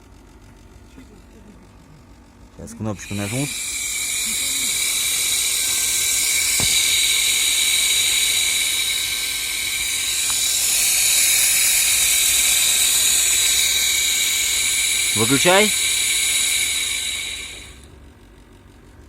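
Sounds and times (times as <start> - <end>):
electric fan motor whining: 0.0 - 19.0.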